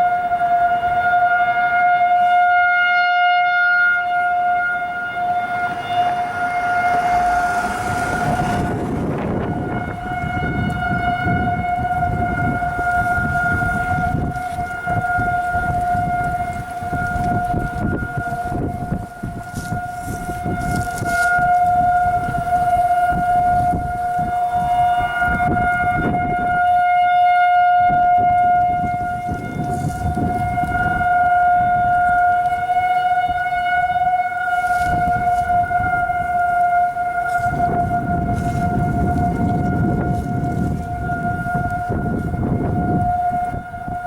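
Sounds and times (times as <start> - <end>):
distant warning siren steady tone: 0.0 - 44.0
low rumbling noise: 4.3 - 26.7, 27.8 - 44.0.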